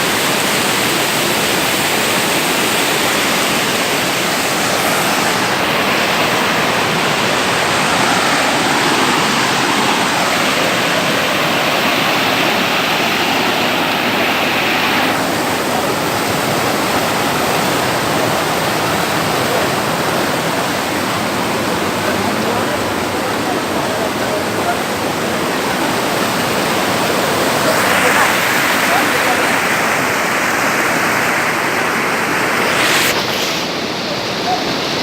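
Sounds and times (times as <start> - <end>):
running water rushing: 0.0 - 35.0.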